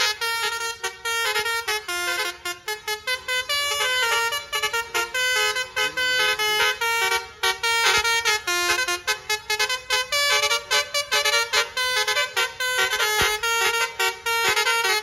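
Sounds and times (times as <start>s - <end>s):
bus multi-trumpet horn melody: 0.0s - 15.0s.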